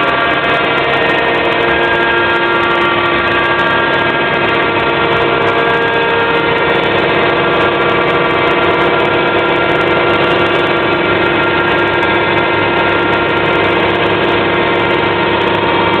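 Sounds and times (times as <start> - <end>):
milling machine motors whining: 0.0 - 16.0.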